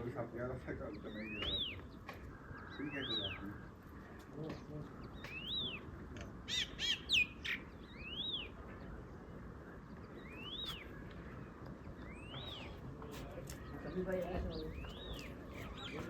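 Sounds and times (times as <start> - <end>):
birds chirping: 0.0 - 16.0
harsh bird calls: 0.0 - 16.0.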